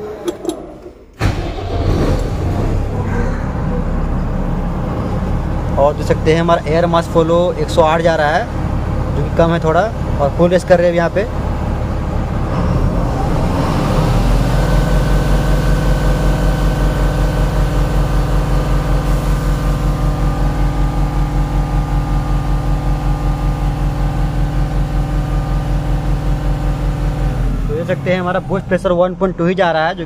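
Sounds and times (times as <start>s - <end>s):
diesel truck engine revving: 0.0s - 30.0s.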